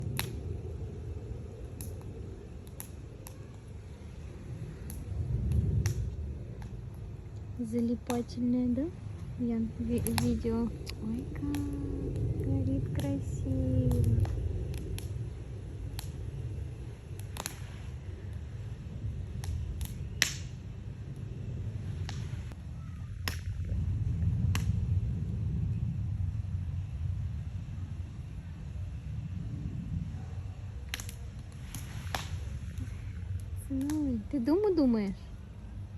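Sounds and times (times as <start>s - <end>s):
campfire crackling: 0.0s - 35.9s
low rumble: 0.0s - 35.9s.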